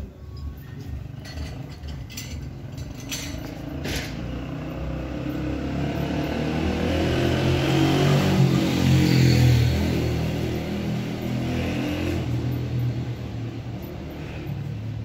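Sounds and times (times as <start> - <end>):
road vehicle approaching: 0.0 - 15.0.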